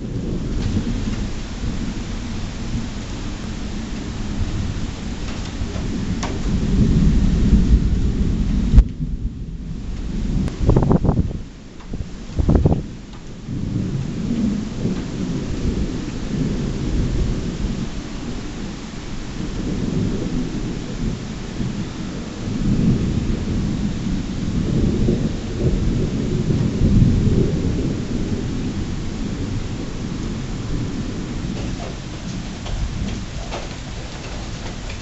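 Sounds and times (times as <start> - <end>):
heavy rain: 0.0 - 35.0
thunder crack and rumbles: 0.0 - 35.0.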